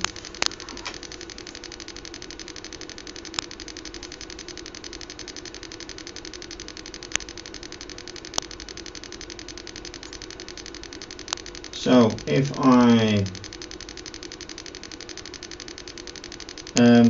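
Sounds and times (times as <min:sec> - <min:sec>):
speaker clicking buzz: 0:00.0 - 0:17.0.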